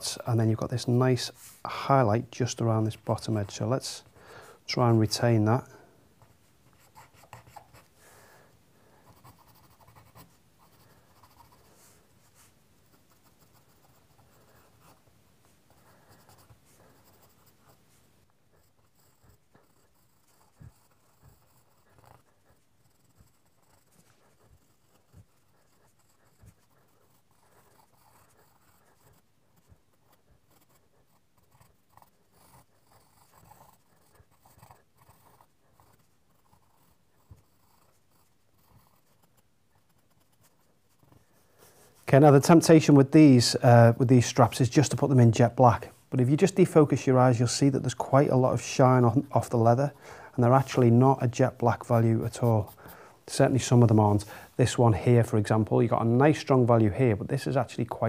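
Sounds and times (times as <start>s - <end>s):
pencil scratching on paper: 0.0s - 4.1s, 6.2s - 8.0s, 8.9s - 43.1s, 47.0s - 54.4s.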